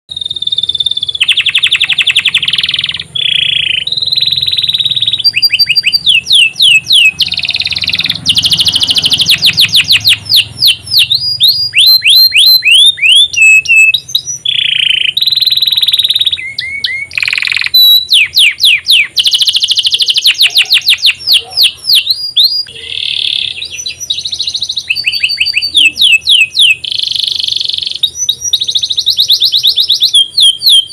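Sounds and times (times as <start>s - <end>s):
canary singing: 0.1s - 30.9s.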